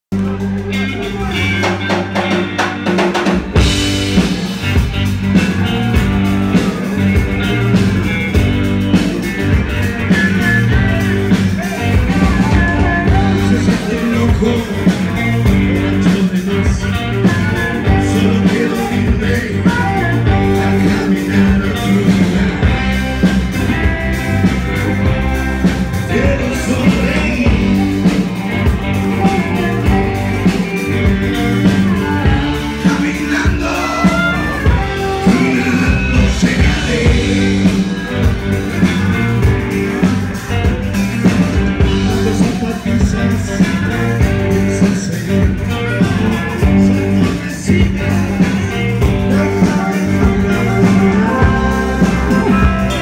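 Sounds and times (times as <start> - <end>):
live rock band playing: 0.1 - 53.0.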